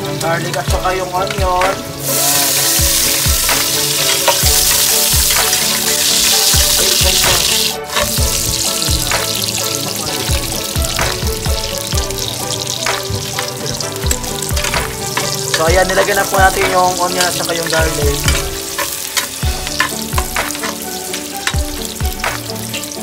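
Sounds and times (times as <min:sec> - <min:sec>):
garlic and onion sizzling in oil: 0:00.0 - 0:23.0
spatula stirring in pot: 0:02.0 - 0:09.6, 0:10.2 - 0:23.0.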